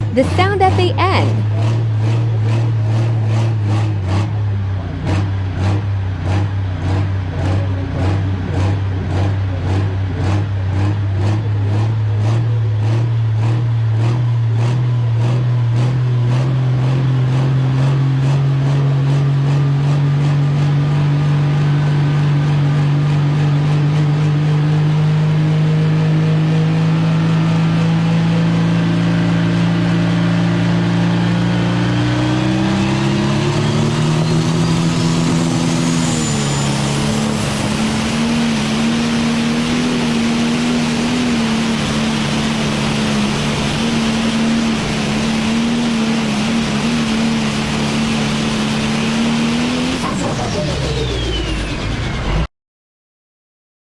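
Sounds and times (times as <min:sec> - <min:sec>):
engine whine: 0:00.0 - 0:52.5
tractor engine running hard: 0:00.0 - 0:52.5.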